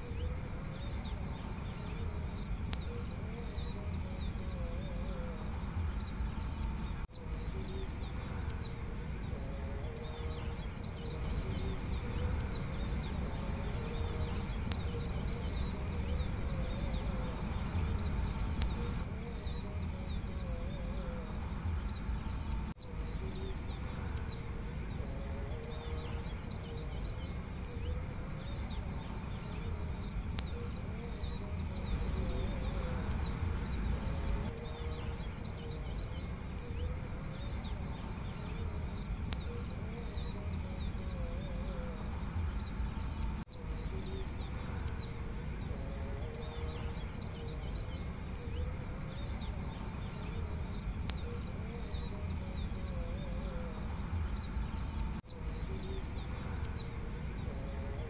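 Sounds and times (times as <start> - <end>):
crickets trilling: 0.0 - 58.0
small birds chirping: 0.0 - 58.0.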